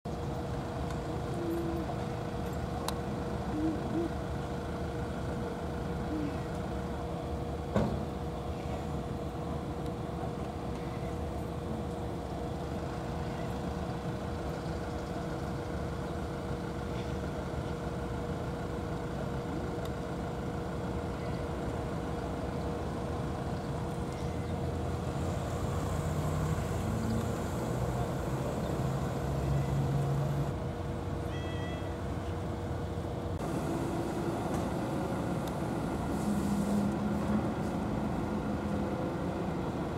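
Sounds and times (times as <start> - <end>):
constant hum: 0.1 - 39.9
low mechanical rumble: 0.1 - 39.9.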